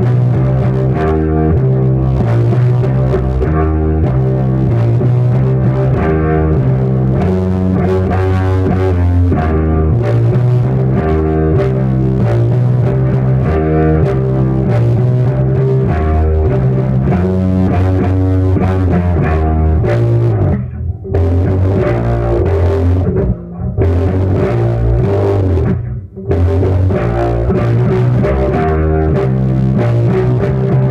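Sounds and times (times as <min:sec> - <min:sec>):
gritty electric bass riff: 0:00.0 - 0:30.9.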